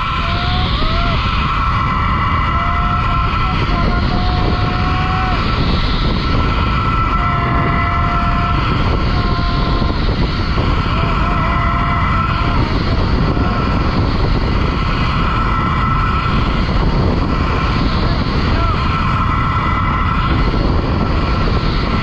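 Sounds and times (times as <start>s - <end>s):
pulley wheels whining on cable: 0.0s - 22.0s
wind rushing over microphone: 0.0s - 22.0s.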